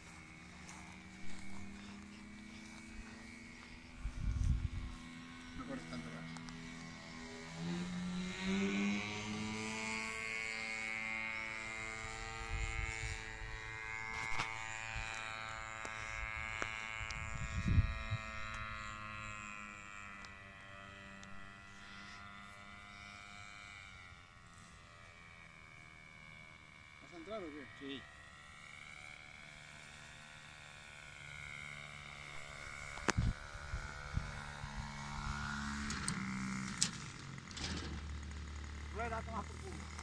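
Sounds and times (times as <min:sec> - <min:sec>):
small propeller engine revving: 0:00.0 - 0:40.0.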